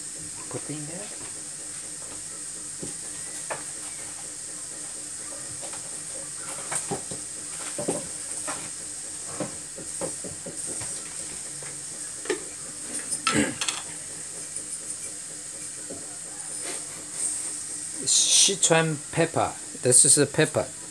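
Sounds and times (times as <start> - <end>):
gas burner hissing: 0.0 - 20.9.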